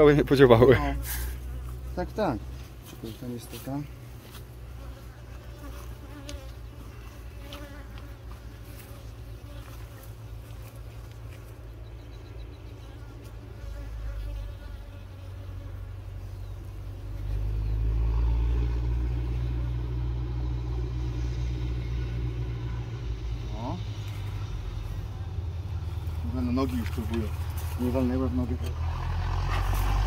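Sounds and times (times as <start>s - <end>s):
honeybees buzzing: 0.0s - 28.7s.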